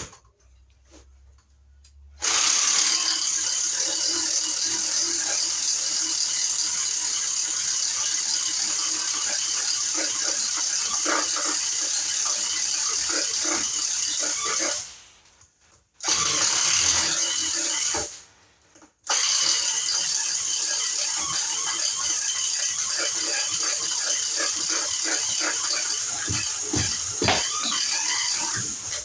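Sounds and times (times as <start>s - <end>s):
power tool running: 2.2s - 15.1s, 16.0s - 18.2s, 19.0s - 29.0s.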